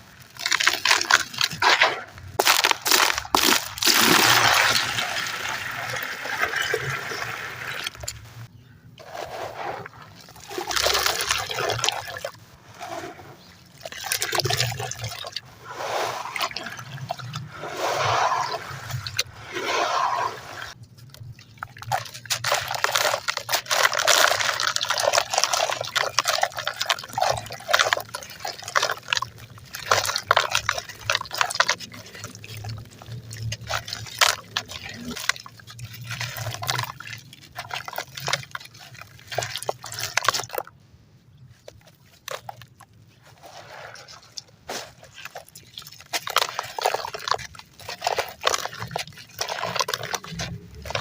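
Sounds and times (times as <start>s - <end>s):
wet concrete crumbling: 0.0s - 12.4s, 13.4s - 15.5s, 16.2s - 40.7s, 41.4s - 51.0s.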